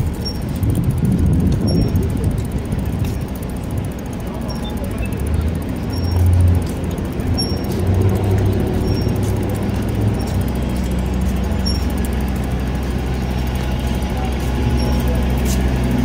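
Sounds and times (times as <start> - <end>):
buses idling: 0.0 - 16.0
city traffic rumble: 0.0 - 16.0.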